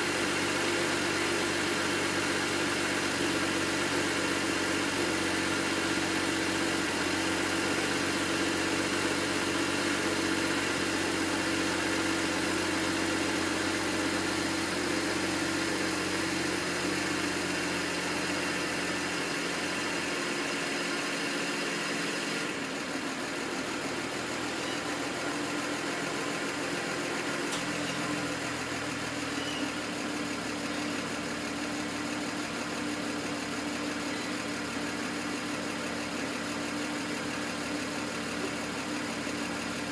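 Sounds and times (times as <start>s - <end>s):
car engine idling with misfire: 0.0s - 39.9s.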